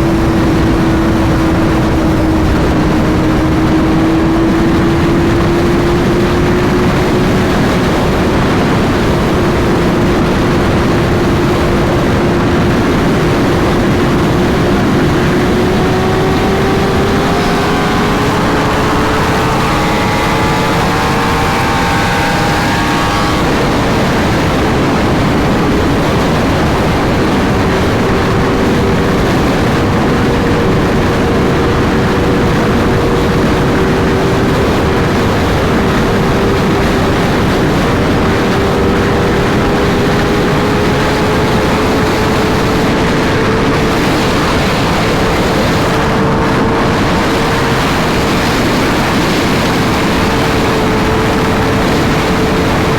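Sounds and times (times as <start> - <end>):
motorcycle engine at high revs: 0.0 - 52.9
wind rush: 0.0 - 52.9.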